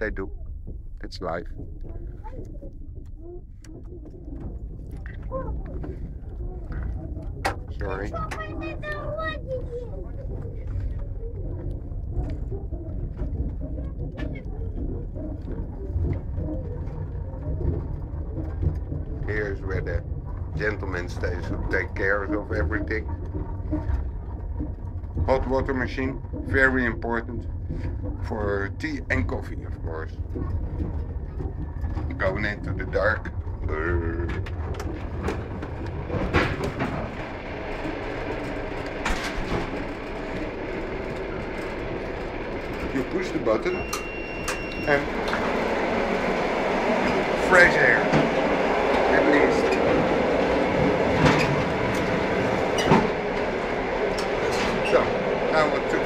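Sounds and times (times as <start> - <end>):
train running gear rumble: 0.0 - 56.0.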